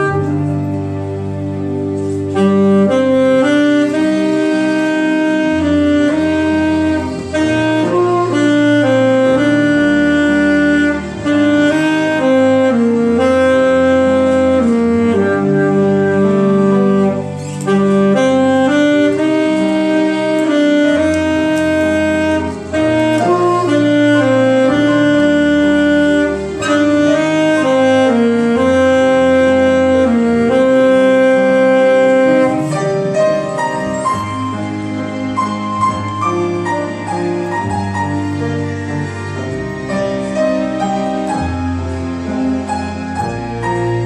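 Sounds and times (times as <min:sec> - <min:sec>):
saxophone slow melody: 0:00.0 - 0:44.0
sustained instrumental accompaniment: 0:00.0 - 0:44.0.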